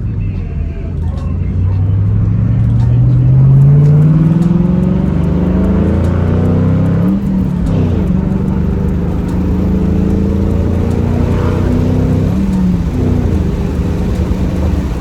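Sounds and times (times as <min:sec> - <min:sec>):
car engine accelerating hard: 0:00.8 - 0:15.0.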